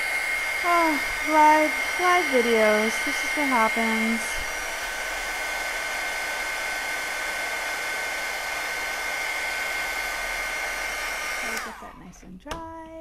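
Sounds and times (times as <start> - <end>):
heat tool fan whine: 0.0 - 12.0.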